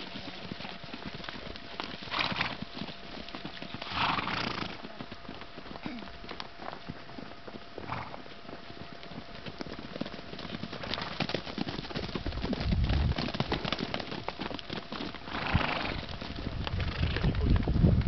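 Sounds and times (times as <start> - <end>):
horse hooves clopping: 0.0 - 18.0.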